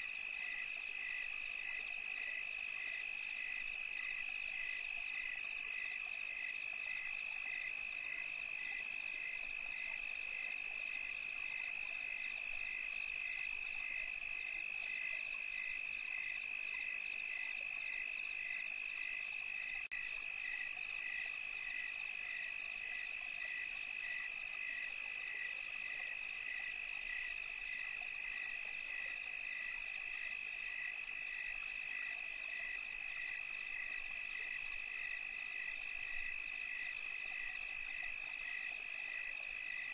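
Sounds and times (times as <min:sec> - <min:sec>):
continuous high insect trill: 0:00.0 - 0:39.9.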